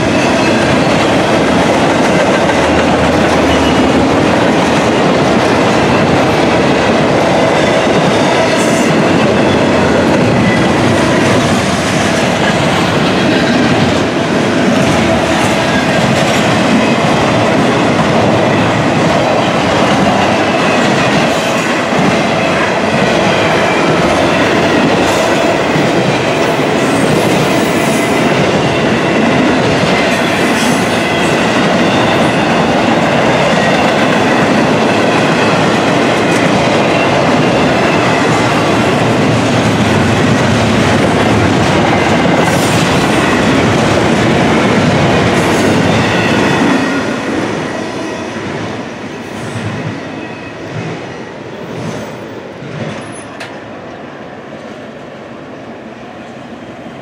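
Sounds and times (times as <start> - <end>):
clickety-clack over rail joints: 0.0 - 47.7, 50.7 - 53.6
freight train wheels rumbling: 0.0 - 57.0.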